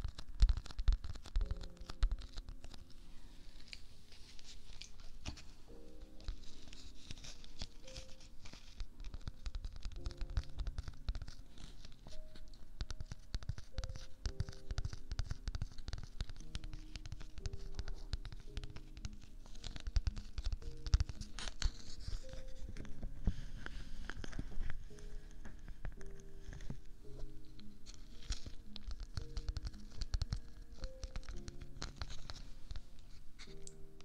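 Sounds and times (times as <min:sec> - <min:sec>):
soft music: 0:00.0 - 0:34.0.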